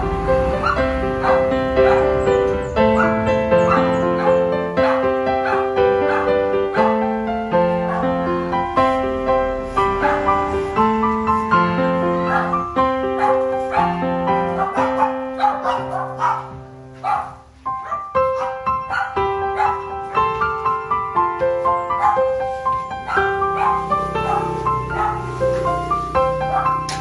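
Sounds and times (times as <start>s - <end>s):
puppies yipping: 0.0s - 8.5s, 9.8s - 27.0s
piano music: 0.0s - 27.0s.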